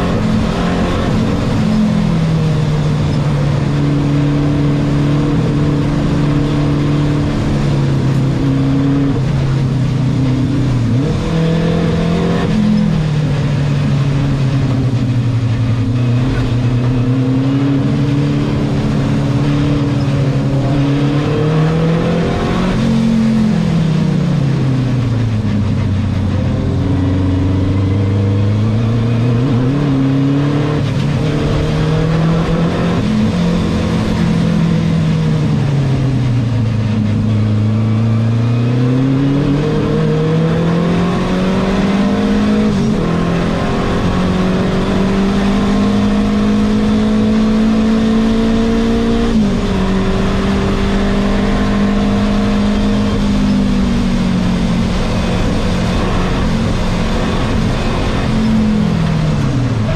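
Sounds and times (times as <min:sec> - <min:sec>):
car engine racing: 0:00.0 - 0:59.9.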